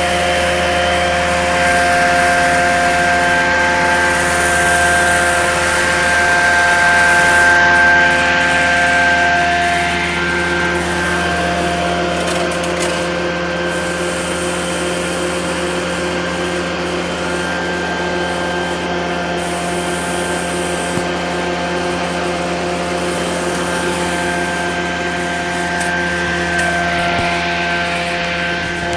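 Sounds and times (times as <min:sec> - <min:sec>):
carpet cleaning machine droning: 0:00.0 - 0:28.9.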